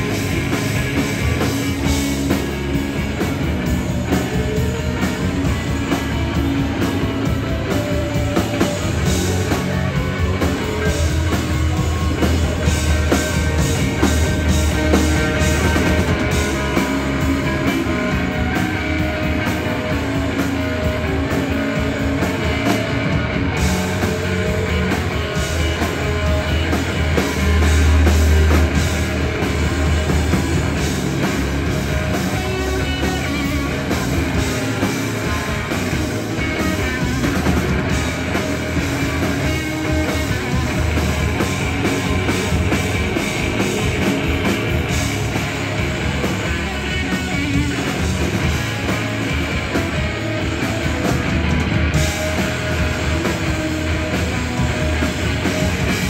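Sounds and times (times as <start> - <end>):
drums: 0.0 - 56.0
electric guitar: 0.0 - 56.0
heavy bass line: 0.0 - 56.0.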